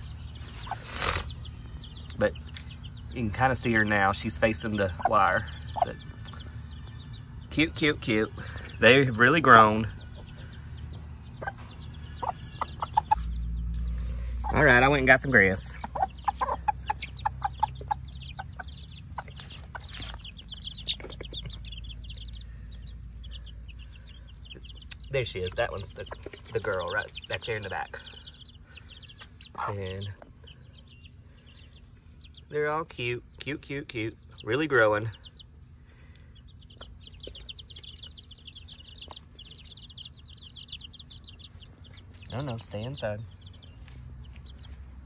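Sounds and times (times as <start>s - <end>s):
chicks peeping: 0.0s - 45.0s
hen clucking: 0.0s - 45.0s.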